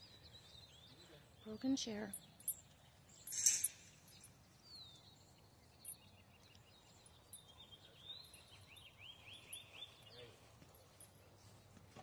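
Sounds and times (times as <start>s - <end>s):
faint songbird singing: 0.0s - 11.8s.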